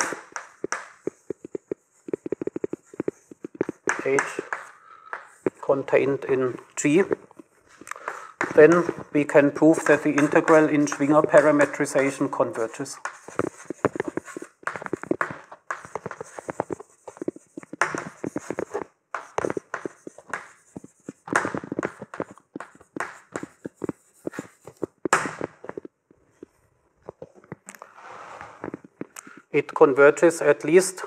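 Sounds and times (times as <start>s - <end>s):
chalk tapping and scratching on chalkboard: 0.0s - 26.5s.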